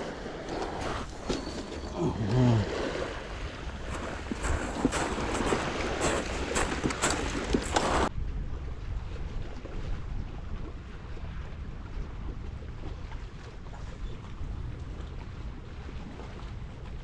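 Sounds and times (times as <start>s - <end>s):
sea rumble: 0.0s - 17.0s
wind buffeting microphone: 0.0s - 17.0s.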